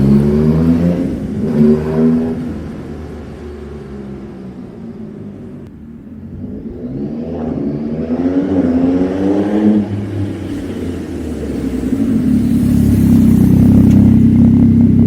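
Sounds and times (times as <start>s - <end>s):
motorcycle engine accelerating: 0.0s - 3.7s, 6.2s - 15.0s.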